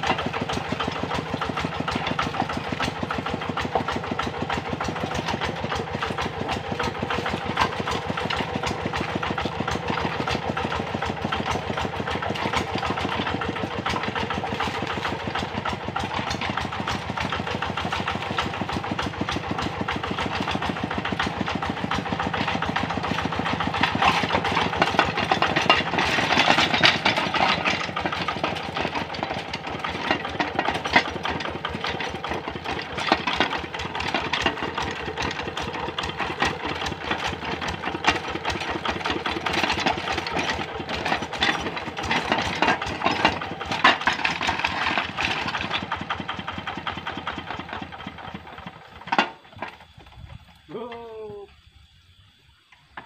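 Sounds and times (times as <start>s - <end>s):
diesel hand tractor chugging: 0.0s - 52.1s, 52.8s - 53.0s.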